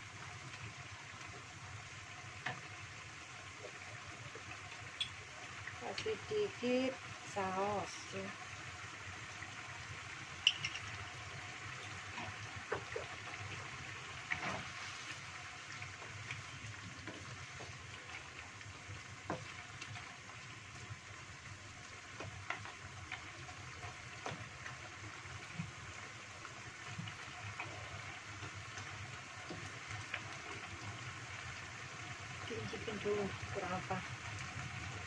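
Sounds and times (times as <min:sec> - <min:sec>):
food sizzling in a wok: 0:00.0 - 0:35.0.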